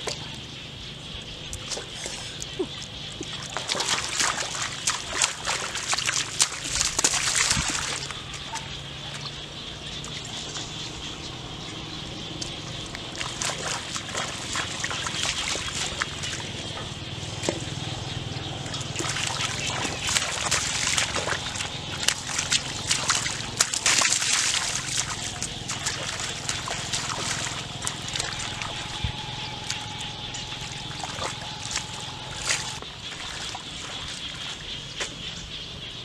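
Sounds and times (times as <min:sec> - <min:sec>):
splashing in shallow water: 0:00.0 - 0:00.6, 0:01.4 - 0:35.3
wading through water: 0:00.0 - 0:35.4.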